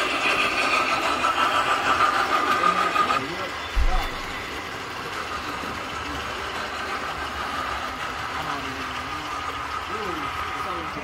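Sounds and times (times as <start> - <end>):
model train wheels on rail: 0.0 - 11.0.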